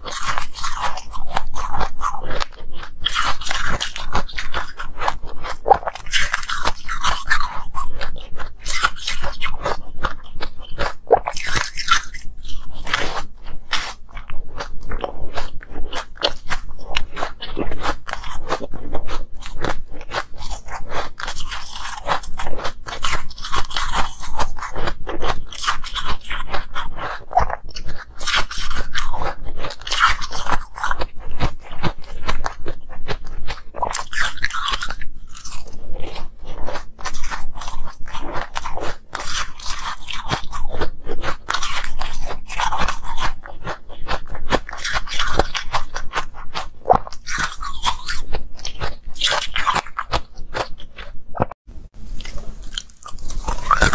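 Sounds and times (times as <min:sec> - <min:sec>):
crunching and chewing ice: 0:00.0 - 0:53.9.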